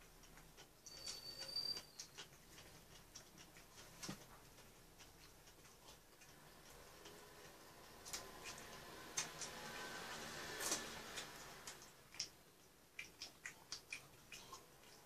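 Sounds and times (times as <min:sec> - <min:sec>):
chewing mouth clicks: 0:00.0 - 0:15.0.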